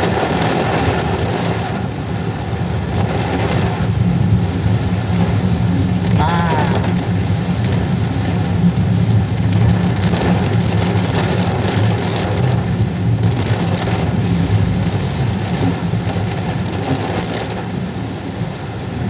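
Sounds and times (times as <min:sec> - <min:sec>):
car engine: 0:00.0 - 0:18.8
rain falling on car: 0:00.0 - 0:19.0
tyres on wet road: 0:00.0 - 0:19.0.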